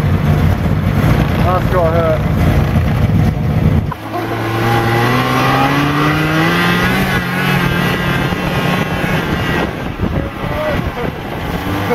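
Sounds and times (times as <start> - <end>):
snowmobile engine accelerating: 0.0 - 11.9.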